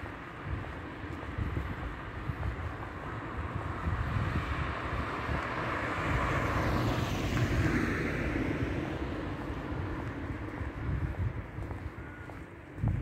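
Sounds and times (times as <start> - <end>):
car passing: 0.0 - 12.6
wind buffeting microphone: 0.0 - 13.0.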